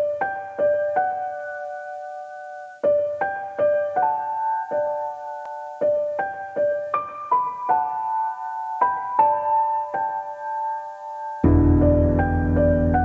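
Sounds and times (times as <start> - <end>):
slow keyboard melody: 0.0 - 13.0.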